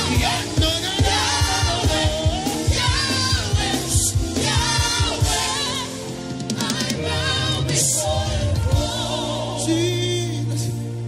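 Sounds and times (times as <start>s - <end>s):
band with steady beat: 0.0s - 10.6s
voices singing: 0.0s - 10.8s.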